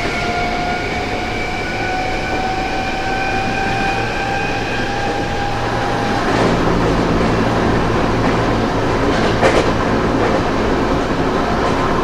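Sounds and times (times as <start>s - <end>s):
train motor whine: 0.0s - 12.0s
train running rumble: 0.0s - 12.0s.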